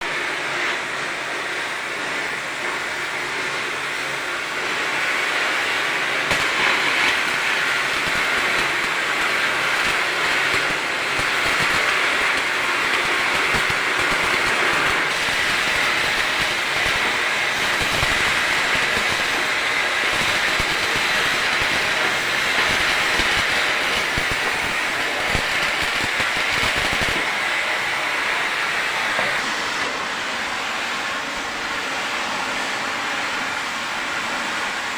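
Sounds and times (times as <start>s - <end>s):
arc welding crackling hiss: 0.1s - 34.9s.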